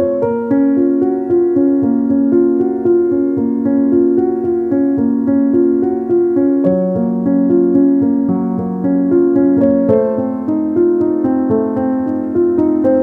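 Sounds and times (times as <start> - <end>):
background piano music: 0.0 - 13.0.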